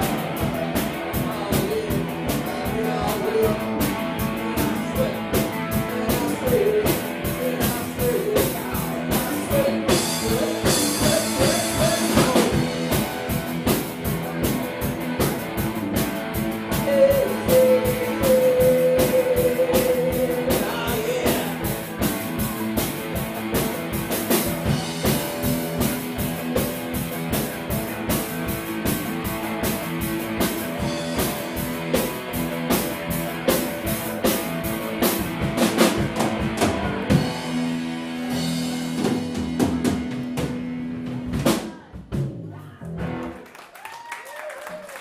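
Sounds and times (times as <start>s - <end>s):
drum kit beating: 0.0s - 43.4s
live rock band playing: 0.0s - 43.8s.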